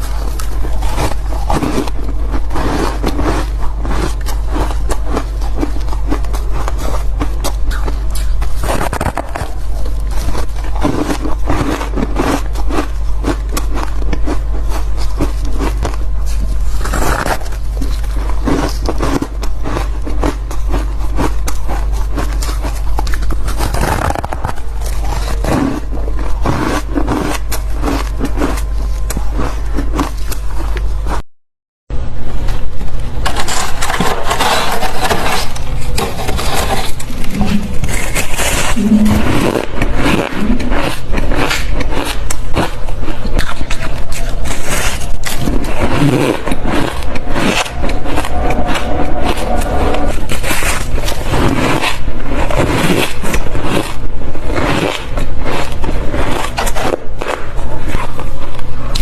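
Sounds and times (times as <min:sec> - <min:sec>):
ice crunching in mouth: 0:00.0 - 0:31.2, 0:33.3 - 0:59.0.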